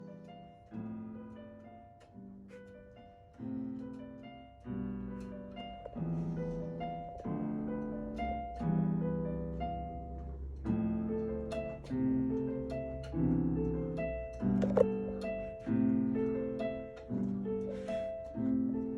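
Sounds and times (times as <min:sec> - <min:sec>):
slow piano chords and notes: 0:00.0 - 0:18.9.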